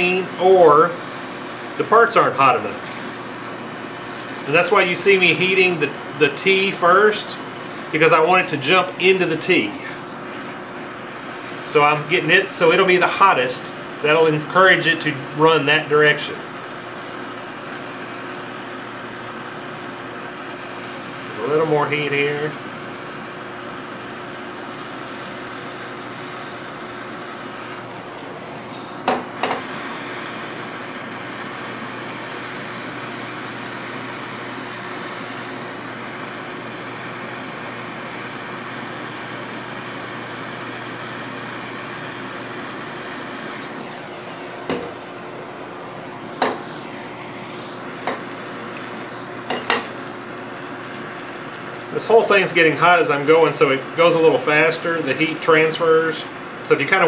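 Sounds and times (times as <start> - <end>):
torch flame hissing: 0.0 - 57.0.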